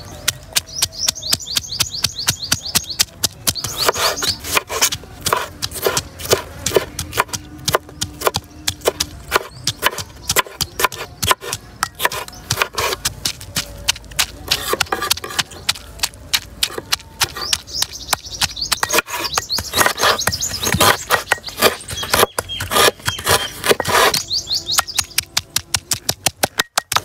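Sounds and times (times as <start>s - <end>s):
bird chirping trills: 0.0s - 27.0s
sharp knocks and clicks: 0.2s - 27.0s.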